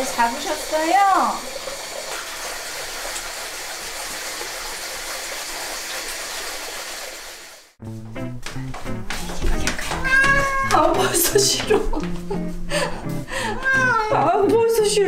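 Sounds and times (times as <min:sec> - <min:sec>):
water running into a bath: 0:00.0 - 0:07.8, 0:09.6 - 0:15.0.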